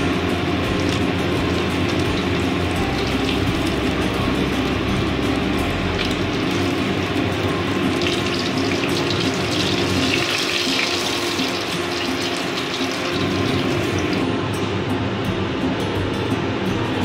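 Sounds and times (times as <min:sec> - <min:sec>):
hot oil sizzling: 0:00.0 - 0:14.3.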